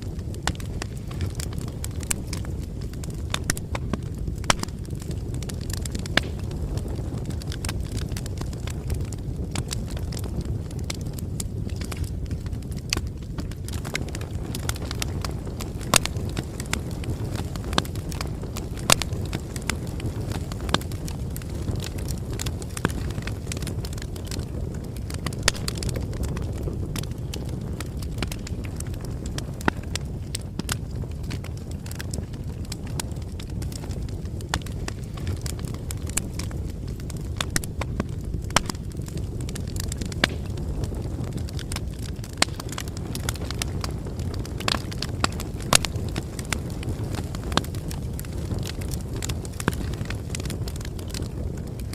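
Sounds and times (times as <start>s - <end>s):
burning wood crackling and popping: 0.0s - 51.9s
rumble of bonfire flames: 0.0s - 51.9s.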